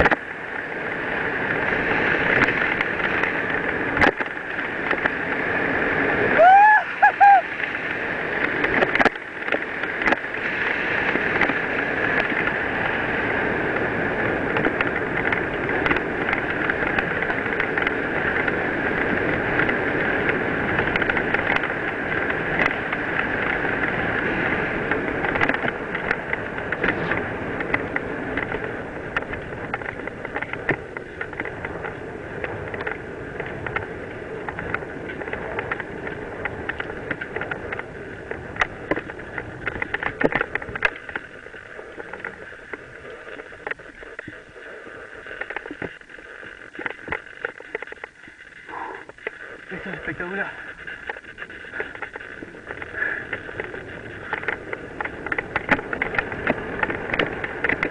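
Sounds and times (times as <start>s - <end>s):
bike rattling and knocking: 0.0s - 57.9s
bike tyres rumbling on gravel: 0.0s - 57.9s.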